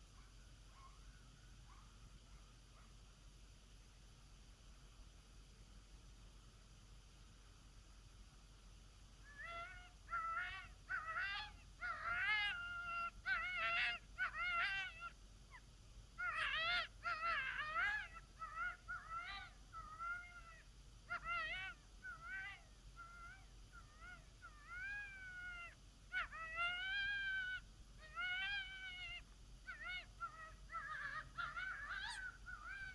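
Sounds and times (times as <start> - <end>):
coyote call yips and howls: 0.0 - 2.9, 9.2 - 32.9.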